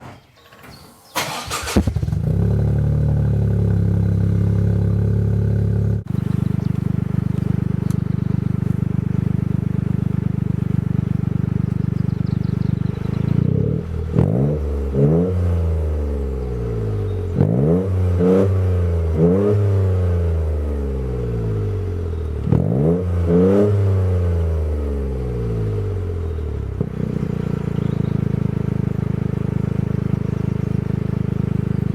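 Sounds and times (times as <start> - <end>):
car engine idling and revving: 1.2 - 31.9.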